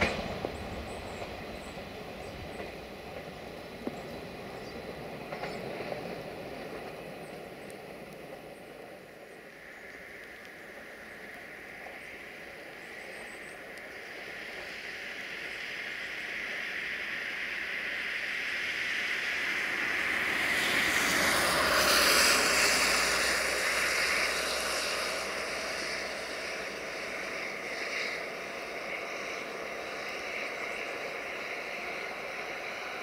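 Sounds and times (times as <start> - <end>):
tyres hissing on wet road: 0.0 - 33.0.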